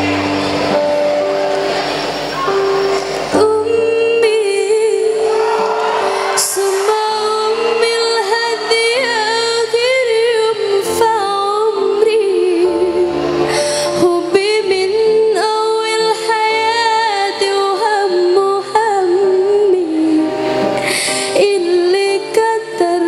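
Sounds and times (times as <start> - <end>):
woman singing into microphone: 3.2 - 23.0.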